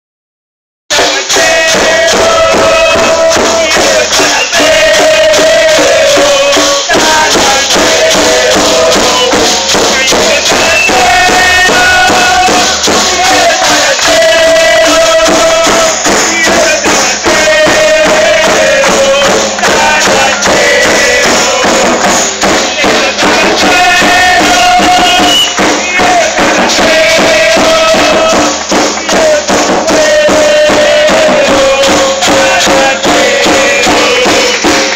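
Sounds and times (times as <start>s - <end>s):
crowd chanting in unison: 0.9s - 34.9s
percussion beating steadily: 0.9s - 34.9s.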